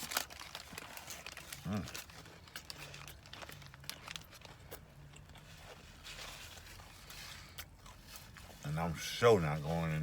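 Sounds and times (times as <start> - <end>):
person chewing crunchy food: 0.0 - 9.9.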